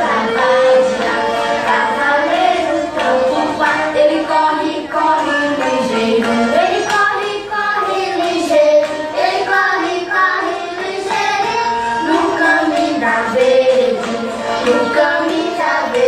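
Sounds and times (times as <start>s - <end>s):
song with sung melody: 0.0s - 16.0s.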